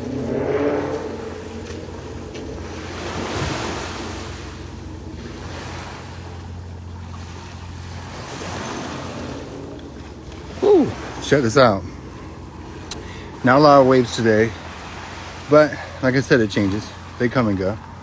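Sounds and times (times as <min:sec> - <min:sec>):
wind buffeting microphone: 0:00.0 - 0:15.4
low hum: 0:00.0 - 0:16.0
surf washing on shore: 0:00.0 - 0:18.0.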